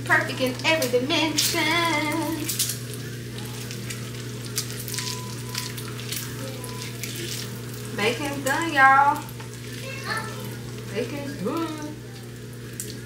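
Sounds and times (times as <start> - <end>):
bacon sizzling with pops: 0.1 - 13.0.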